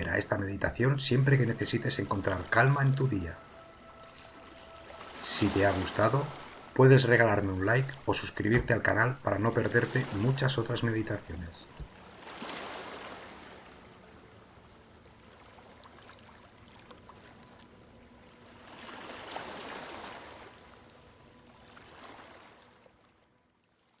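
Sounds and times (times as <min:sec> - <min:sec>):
sea waves washing in: 0:00.0 - 0:17.4, 0:18.4 - 0:22.9.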